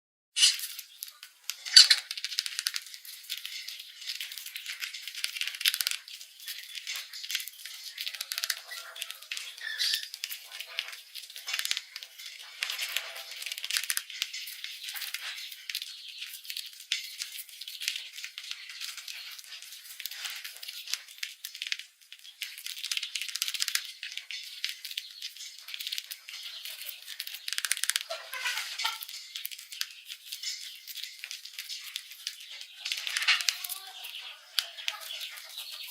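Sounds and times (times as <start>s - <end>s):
mice rustling and scratching: 0.4s - 35.9s.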